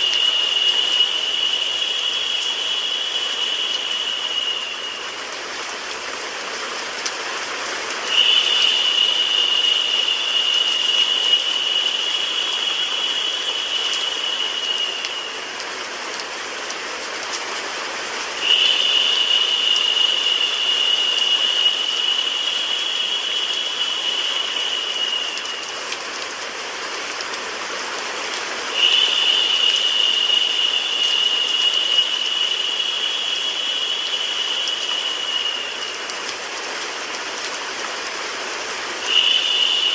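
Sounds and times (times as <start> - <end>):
high narrow hiss: 0.0 - 39.9
rain and white noise: 0.0 - 39.9.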